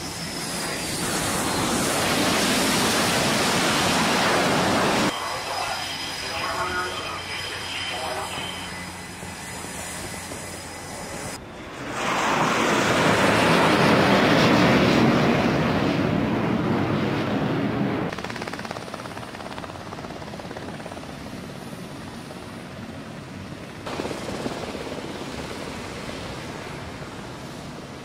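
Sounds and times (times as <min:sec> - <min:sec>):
helicopter hovering: 0:00.0 - 0:28.0
jet aircraft roaring overhead: 0:00.0 - 0:28.0.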